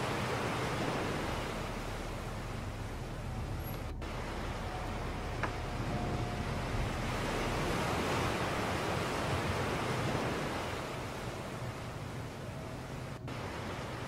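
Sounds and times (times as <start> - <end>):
water wash from boat: 0.0 - 14.0.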